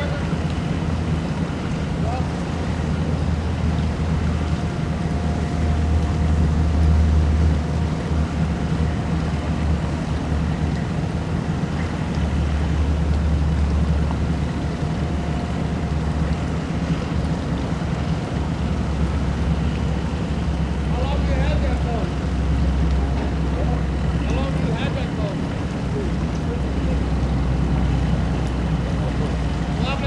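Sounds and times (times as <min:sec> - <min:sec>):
boat engine running: 0:00.0 - 0:30.0.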